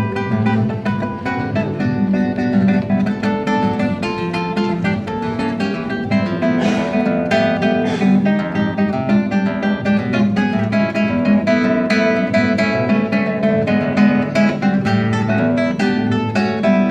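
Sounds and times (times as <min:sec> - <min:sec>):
acoustic guitar playing: 0:00.0 - 0:16.9.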